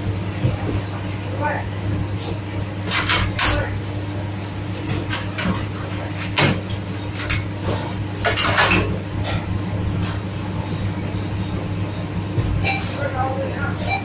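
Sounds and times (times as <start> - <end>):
kitchen equipment hum: 0.0 - 14.0.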